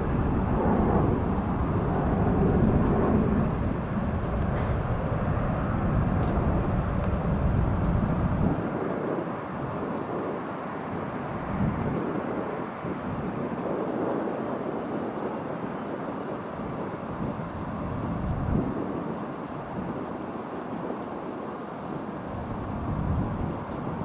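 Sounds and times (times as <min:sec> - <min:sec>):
distant jet engine rumble: 0:00.0 - 0:24.0.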